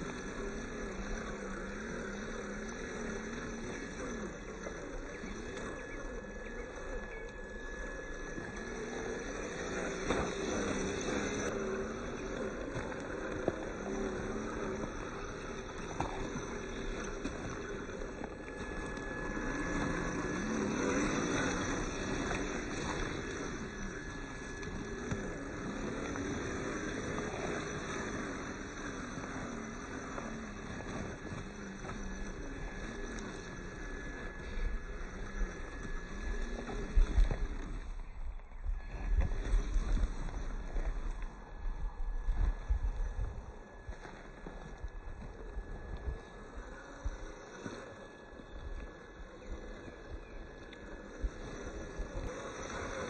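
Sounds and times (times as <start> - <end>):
gravel rattling under tyres: 0.0 - 53.0
toy car electric motor whining: 0.0 - 53.0.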